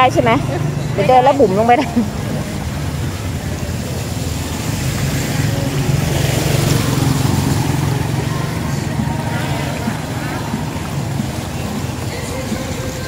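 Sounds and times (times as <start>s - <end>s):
rushing noise: 0.0s - 13.0s
vehicle engine running: 0.0s - 13.0s.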